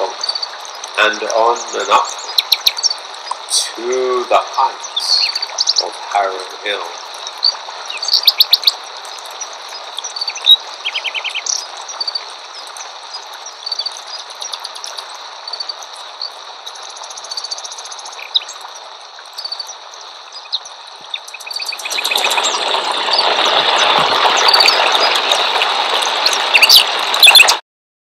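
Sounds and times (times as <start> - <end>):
steady background hiss: 0.0 - 25.5
bird trill: 0.0 - 25.6, 26.2 - 27.6
birds chirping and calling: 0.0 - 25.6, 26.2 - 27.5.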